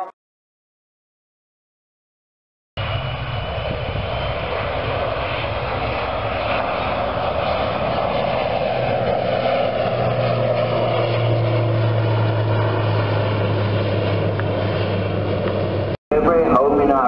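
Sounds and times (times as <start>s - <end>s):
propeller airplane engine drone: 2.8s - 17.0s.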